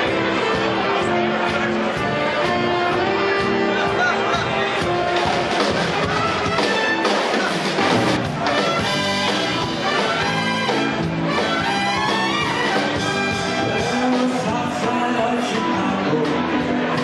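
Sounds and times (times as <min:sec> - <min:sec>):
trumpets and trombone: 0:00.0 - 0:14.3
swing band playing: 0:00.0 - 0:17.0.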